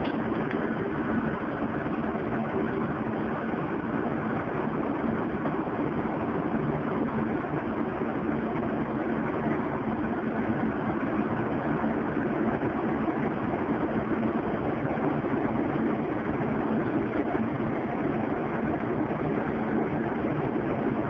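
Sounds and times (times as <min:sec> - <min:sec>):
low mechanical drone: 0:00.0 - 0:21.0.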